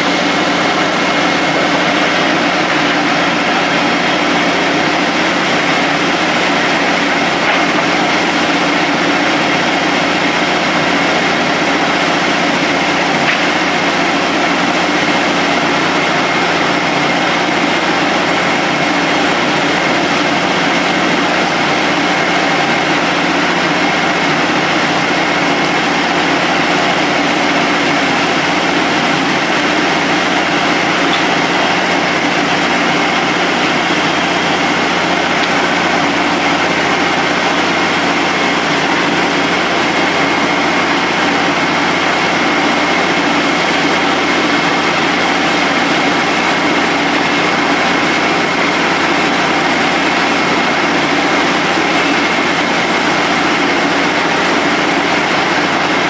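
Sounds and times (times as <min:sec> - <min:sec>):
circular sawmill running: 0:00.0 - 0:56.0.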